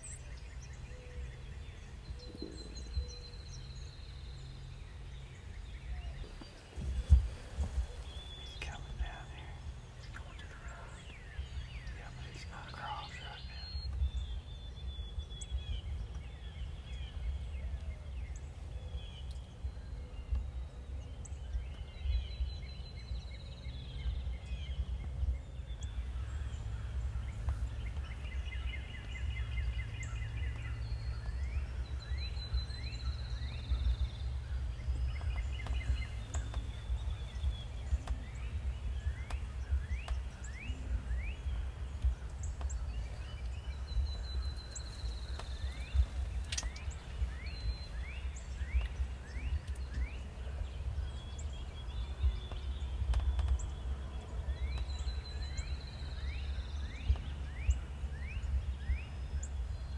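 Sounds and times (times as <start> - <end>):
low outdoor rumble: 0.0 - 59.9
songbirds trilling: 0.0 - 59.9.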